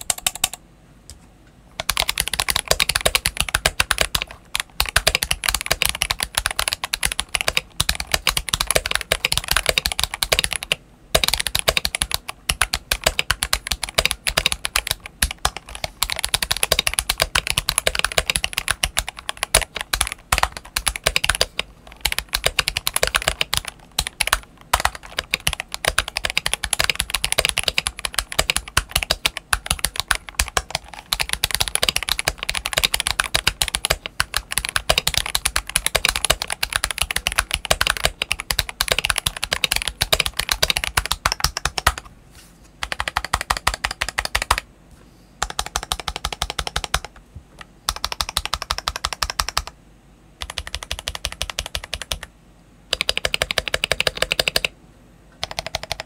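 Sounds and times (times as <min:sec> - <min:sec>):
mechanical keyboard typing: 0:00.0 - 0:00.6, 0:01.8 - 0:42.1, 0:42.8 - 0:44.7, 0:45.4 - 0:47.2, 0:47.9 - 0:49.8, 0:50.4 - 0:52.3, 0:52.9 - 0:54.7, 0:55.4 - 0:56.0.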